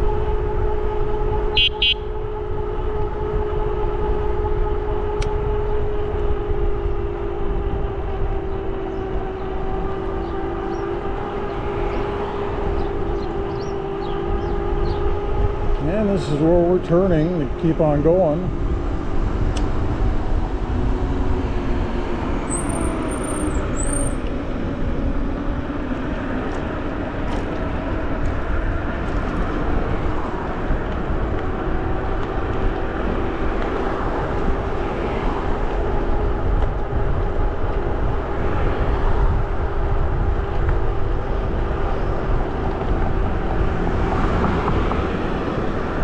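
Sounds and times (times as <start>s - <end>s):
wind on microphone: 0.0s - 46.0s.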